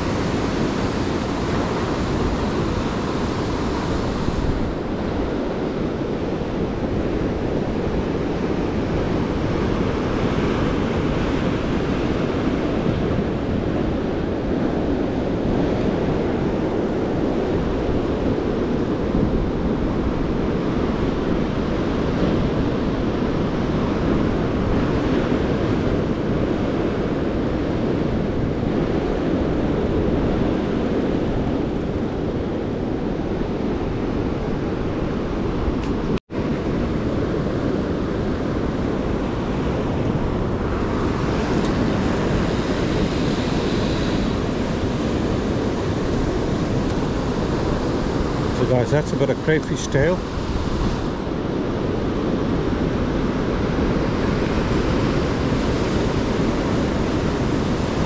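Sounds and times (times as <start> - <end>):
ocean surf breaking over rocks: 0.0 - 58.0
wind rumbling on microphone: 0.0 - 58.0.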